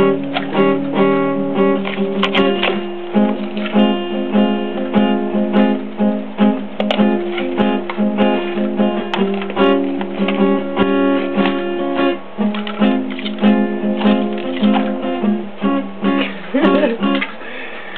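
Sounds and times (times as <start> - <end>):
acoustic guitar strumming chords: 0.0 - 17.8.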